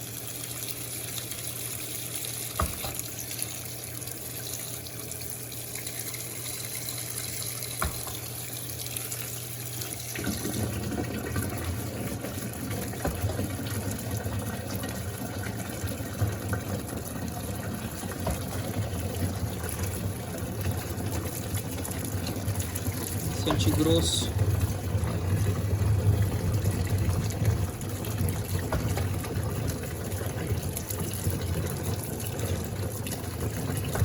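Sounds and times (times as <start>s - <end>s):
washing machine hum: 0.0s - 34.0s
water running into washing machine: 0.0s - 34.0s.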